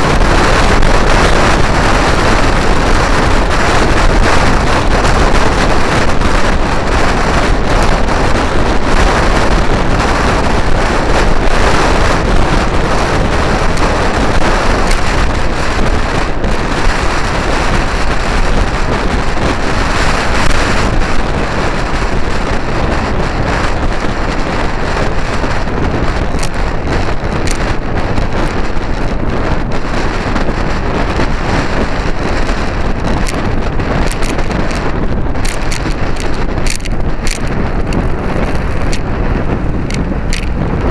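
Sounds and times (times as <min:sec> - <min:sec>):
road noise: 0:00.0 - 0:40.9
scooter engine: 0:00.0 - 0:40.9
wind buffeting microphone: 0:00.0 - 0:40.9.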